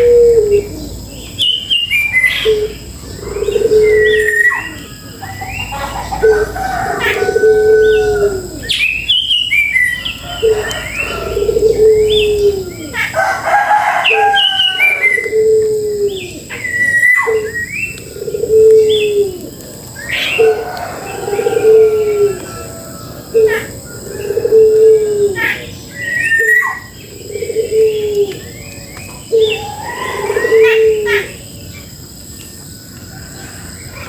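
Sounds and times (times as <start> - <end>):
low drawn-out bird call: 0.0 - 31.5
birds chirping and whistling: 0.0 - 32.7.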